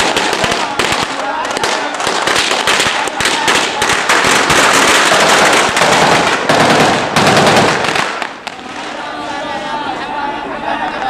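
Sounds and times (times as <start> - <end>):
firecrackers crackling: 0.0 - 9.7.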